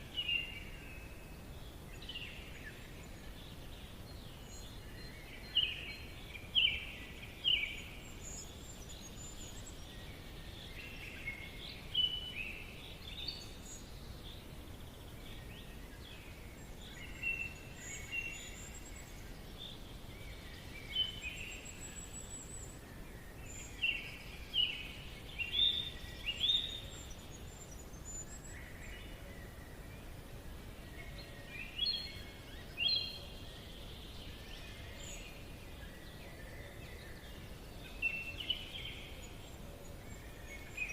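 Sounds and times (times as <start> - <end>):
low background hiss: 0.0 - 40.9.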